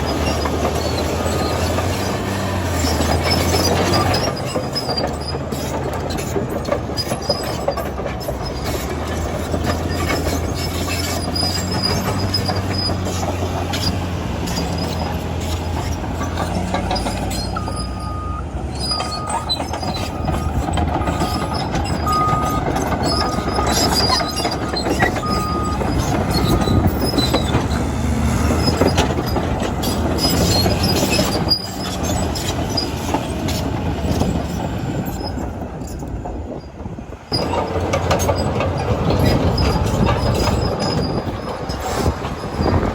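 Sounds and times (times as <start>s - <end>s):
bulldozer diesel engine: 0.0s - 42.9s
steel tracks clanking and squealing: 0.0s - 42.9s.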